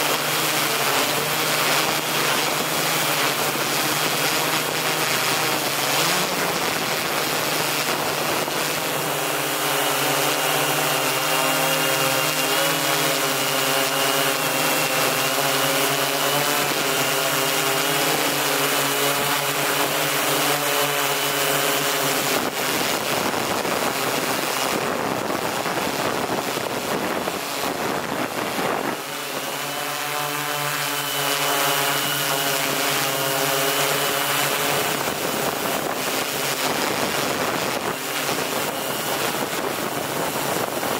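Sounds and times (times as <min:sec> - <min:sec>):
drone buzzing with high whine: 0:00.0 - 0:40.9.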